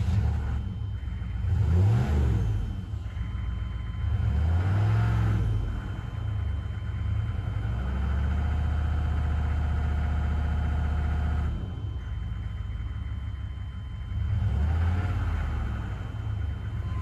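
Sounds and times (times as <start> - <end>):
diesel engine running and revving: 0.0 - 17.0.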